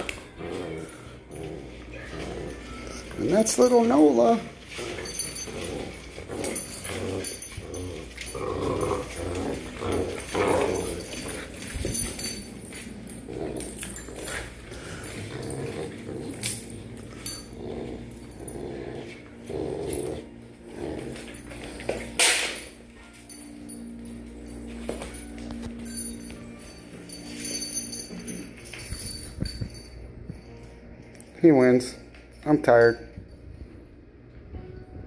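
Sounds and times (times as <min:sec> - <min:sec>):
puppies growling in play: 0:00.0 - 0:30.8.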